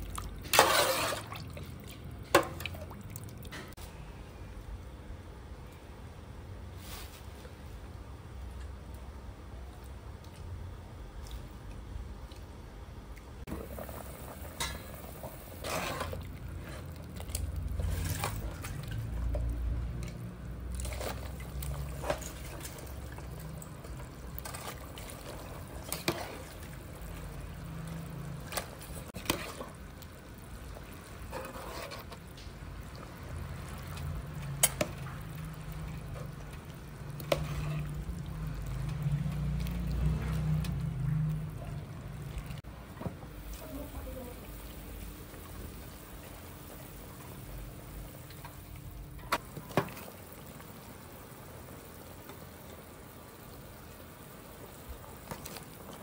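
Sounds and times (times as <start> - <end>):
soup simmering and sloshing: 0.0 - 3.9, 6.7 - 56.0.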